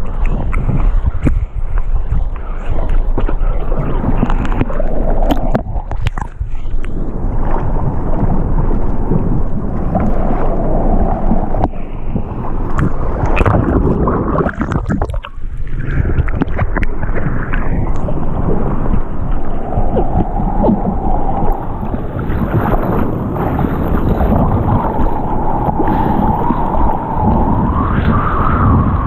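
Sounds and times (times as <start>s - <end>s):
water rushing around surfboard: 0.0s - 29.0s
water splashing: 0.0s - 29.0s.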